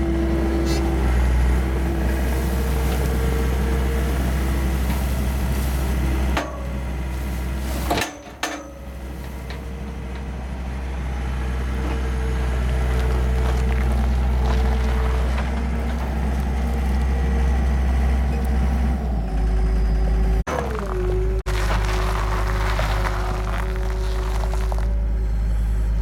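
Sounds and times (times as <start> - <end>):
skid steer loader engine running: 0.0 - 26.0.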